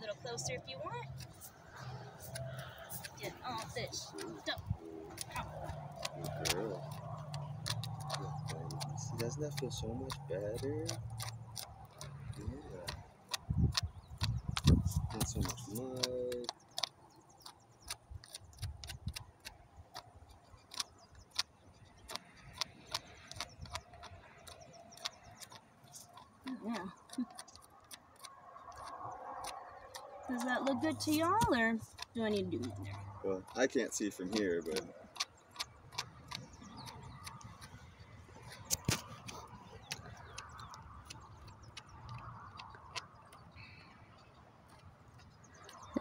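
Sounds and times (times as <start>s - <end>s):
hoof pick scraping hoof: 0.0s - 46.0s.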